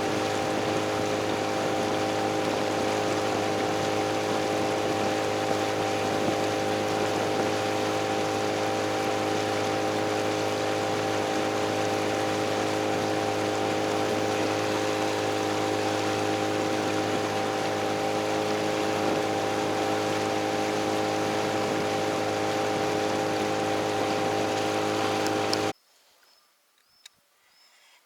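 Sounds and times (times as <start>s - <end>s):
boat motor running: 0.0s - 25.7s.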